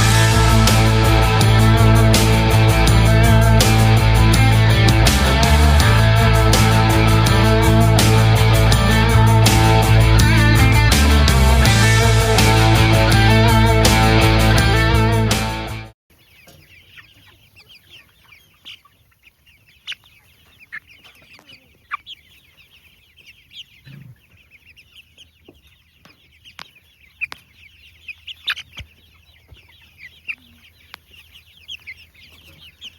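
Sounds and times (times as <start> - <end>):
chickens peeping and clucking: 0.0 - 32.9.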